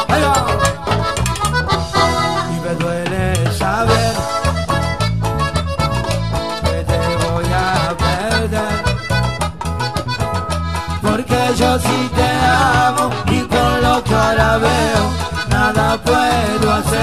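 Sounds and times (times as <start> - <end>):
accordion melody: 0.0 - 17.0
bass line: 0.0 - 17.0.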